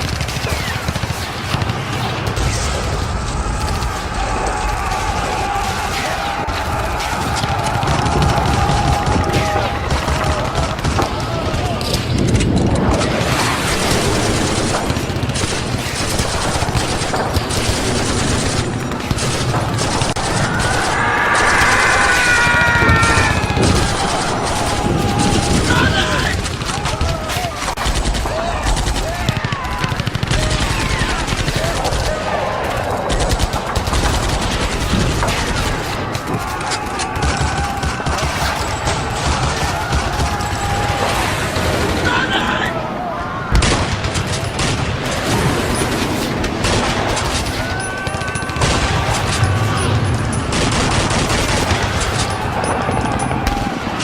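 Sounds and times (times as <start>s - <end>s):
rifle and machine-gun fire: 0.0s - 54.0s.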